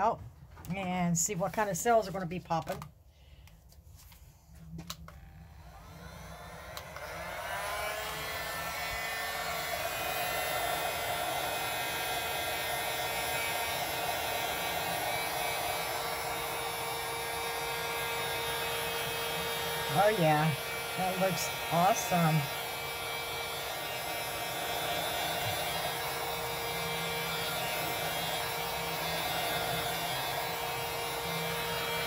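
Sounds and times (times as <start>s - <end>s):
heat gun fan whir: 4.6s - 32.0s.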